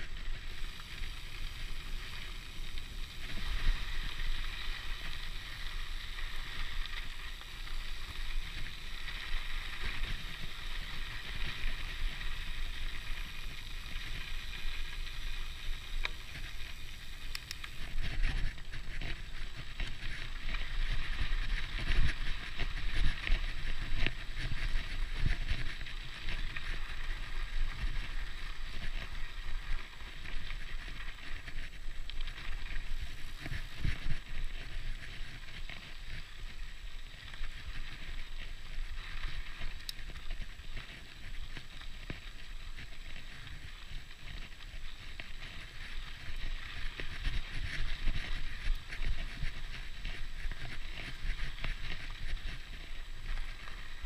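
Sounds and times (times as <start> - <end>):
wind on microphone: 8.0 - 54.0.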